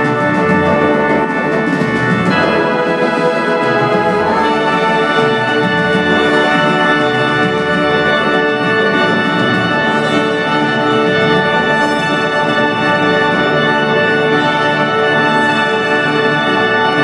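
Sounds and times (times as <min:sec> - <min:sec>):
wind band playing held chords: 0:00.0 - 0:17.0.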